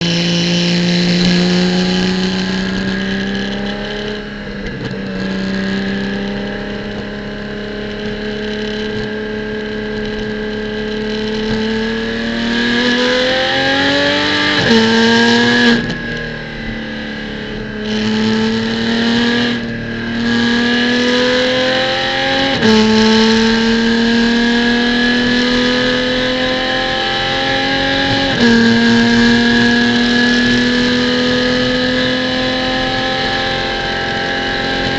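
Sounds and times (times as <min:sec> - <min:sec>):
racing car engine accelerating: 0:00.0 - 0:34.9.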